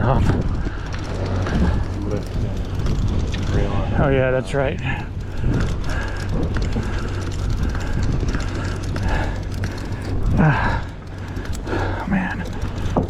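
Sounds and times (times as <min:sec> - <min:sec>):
boat engine droning: 0:00.0 - 0:13.0
wind: 0:00.0 - 0:13.0.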